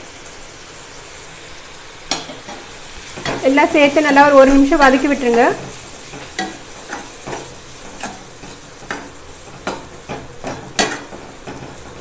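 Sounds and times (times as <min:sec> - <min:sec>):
low sizzle of frying: 0:00.0 - 0:12.0.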